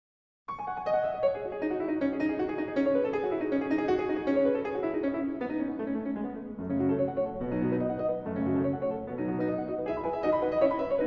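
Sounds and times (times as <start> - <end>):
piano-like keyboard melody: 0.5 - 11.0.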